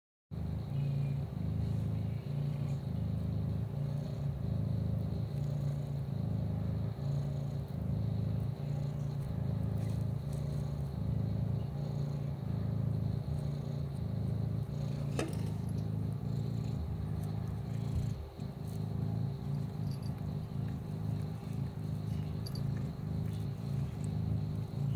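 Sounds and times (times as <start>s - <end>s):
kitten purring: 0.4s - 24.9s.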